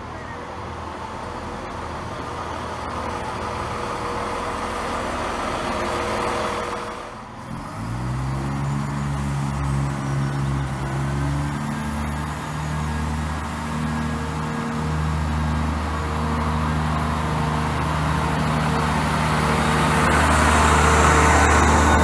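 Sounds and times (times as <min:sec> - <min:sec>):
train rushing noise: 0:00.0 - 0:07.9, 0:09.2 - 0:22.0.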